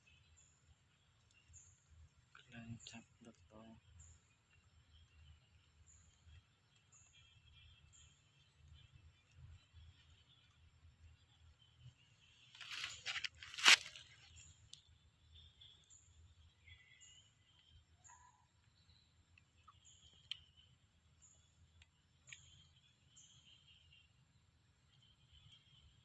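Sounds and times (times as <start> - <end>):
faint high chirps: 2.4 - 26.0.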